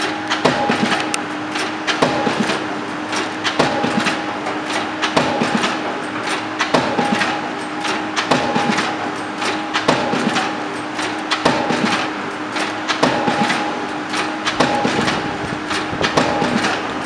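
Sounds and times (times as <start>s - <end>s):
pile driver heavy strikes: 0.0s - 17.0s
steady machine hum: 0.0s - 17.0s.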